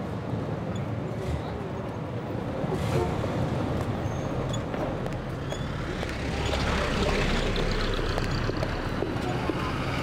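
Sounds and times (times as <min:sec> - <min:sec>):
low street rumble: 0:00.0 - 0:10.0.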